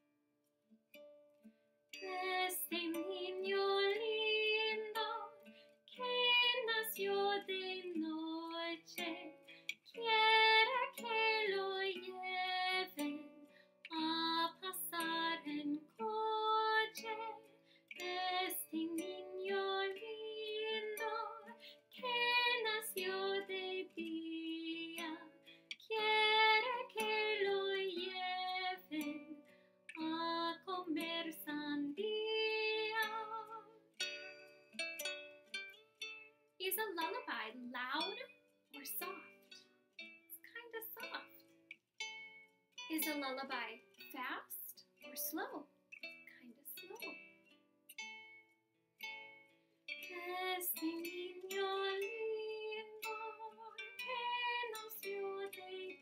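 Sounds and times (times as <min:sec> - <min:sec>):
plucked-string accompaniment: 0:00.9 - 0:56.0
woman singing a lullaby: 0:02.0 - 0:33.8, 0:36.6 - 0:39.3, 0:40.3 - 0:41.4, 0:42.8 - 0:47.3, 0:49.9 - 0:56.0.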